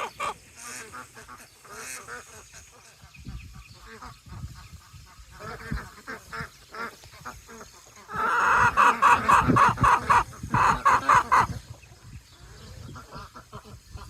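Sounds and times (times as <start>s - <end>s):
poultry squawking: 0.0s - 11.8s.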